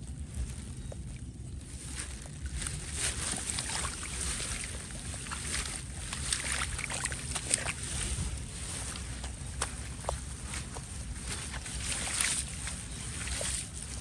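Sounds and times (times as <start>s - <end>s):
steady low rumble: 0.0s - 14.0s
shallow water splashing: 0.4s - 14.0s.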